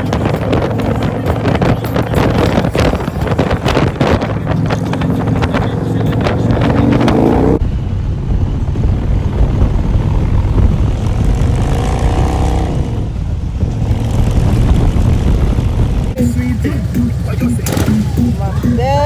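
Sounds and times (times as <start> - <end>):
motorcycle engines running: 0.0 - 19.0
wind buffeting microphone: 0.0 - 19.0.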